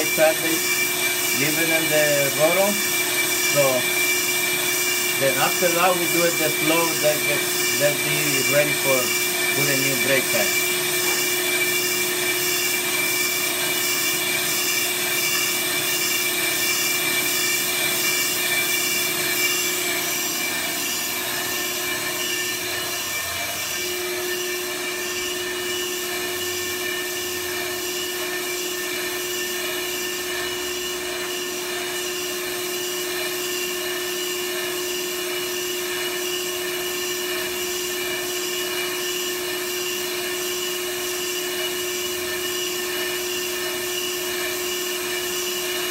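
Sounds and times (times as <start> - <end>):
brake lathe machine hum: 0.0 - 45.9.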